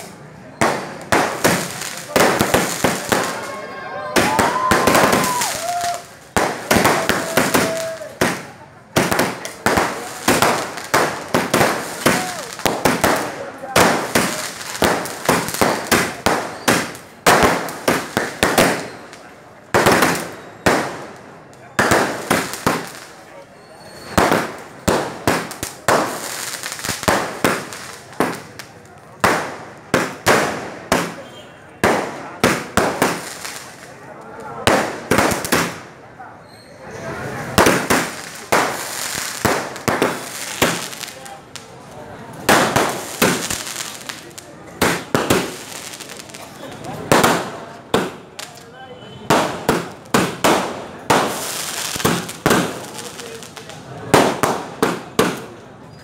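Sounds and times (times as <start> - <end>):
firecrackers banging: 0.0 - 56.0.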